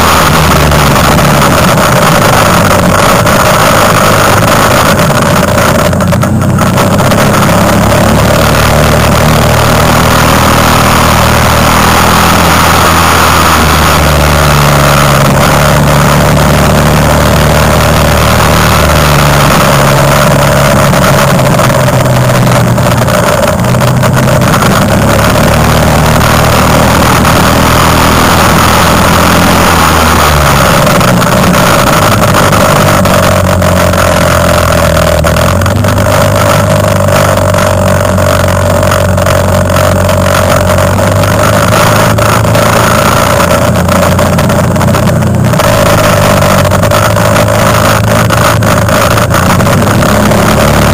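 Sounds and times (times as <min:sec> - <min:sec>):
quad bike engine revving: 0:00.0 - 0:50.9.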